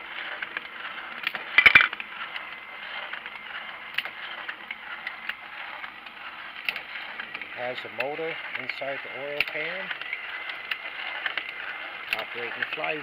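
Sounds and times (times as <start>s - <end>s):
plastic engine model whirring clatter: 0.0s - 13.0s.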